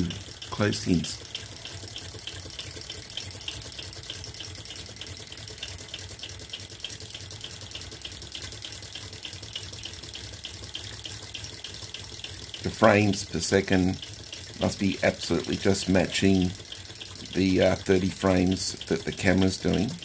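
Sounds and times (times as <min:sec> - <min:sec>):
machinery ticking: 0:00.0 - 0:20.0.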